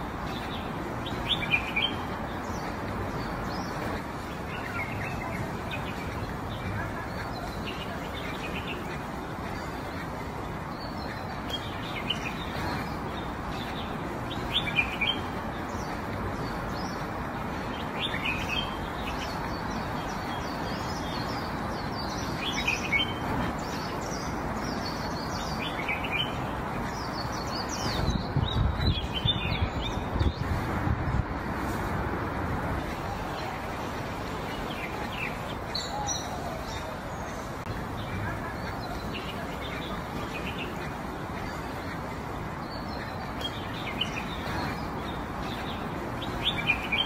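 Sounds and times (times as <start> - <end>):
small birds chirping: 0.0 - 47.0
steady outdoor hiss: 0.0 - 47.0.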